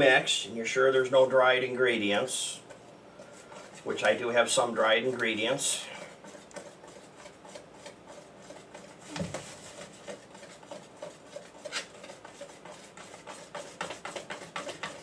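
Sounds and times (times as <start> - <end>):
whisk scraping and clicking in bowl: 0.9 - 15.0.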